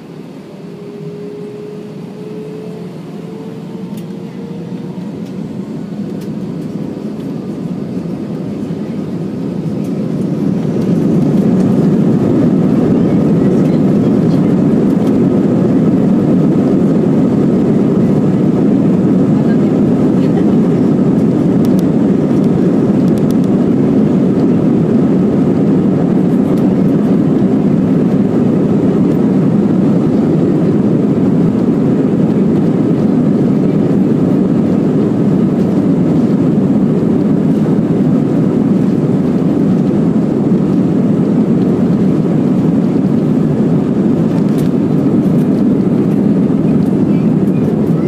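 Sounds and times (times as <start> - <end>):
jet engine rumble in cabin: 0.0 - 48.0.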